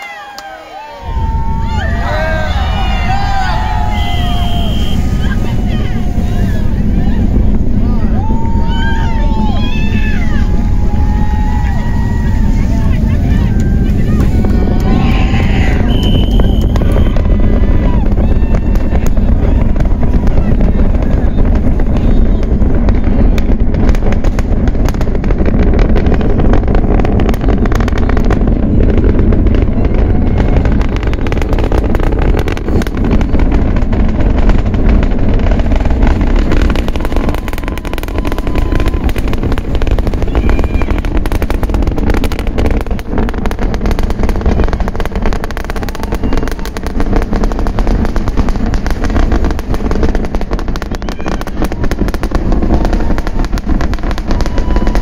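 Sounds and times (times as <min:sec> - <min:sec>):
rocket engines rumbling and crackling: 0:00.0 - 0:55.0.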